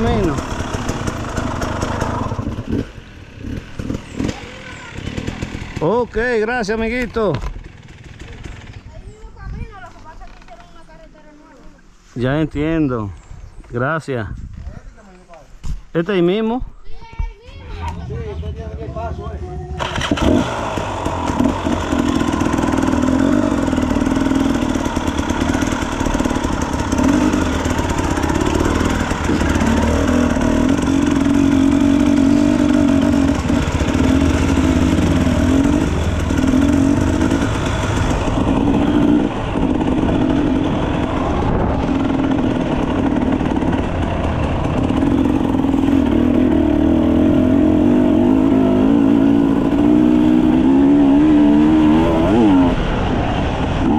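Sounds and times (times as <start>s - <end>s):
dirt bike engine revving: 0.0s - 8.9s, 18.0s - 53.9s.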